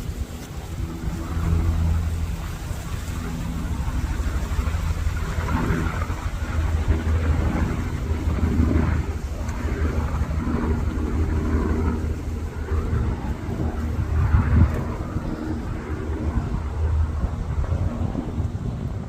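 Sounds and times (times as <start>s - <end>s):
aircraft flying over: 0.0s - 19.0s.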